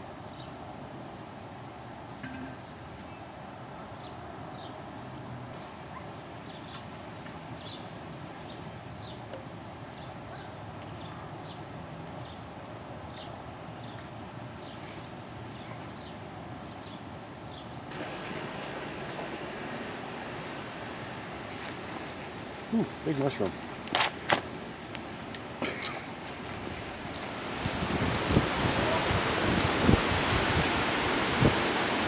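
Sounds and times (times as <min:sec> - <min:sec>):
wind rushing through trees: 0:02.9 - 0:32.0.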